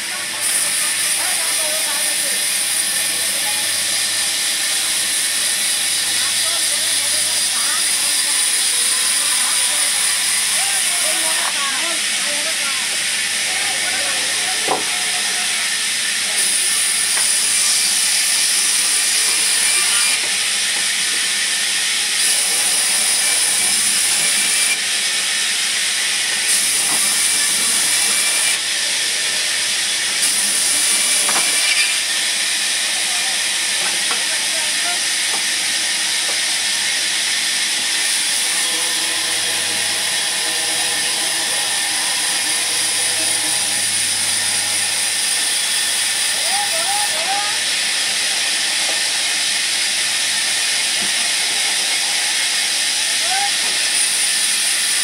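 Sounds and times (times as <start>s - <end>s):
band saw cutting through log: 0.0s - 55.0s.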